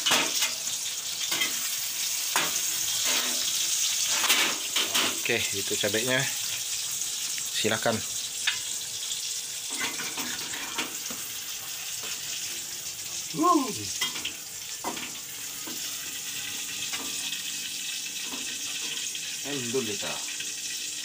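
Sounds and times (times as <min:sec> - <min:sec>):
hot oil sizzling in a wok: 0:00.0 - 0:21.0.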